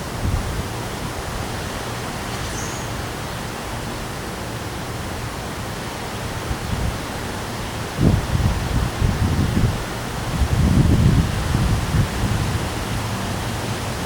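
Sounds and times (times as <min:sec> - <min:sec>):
high winds: 0:00.0 - 0:14.0
rain: 0:00.0 - 0:14.0.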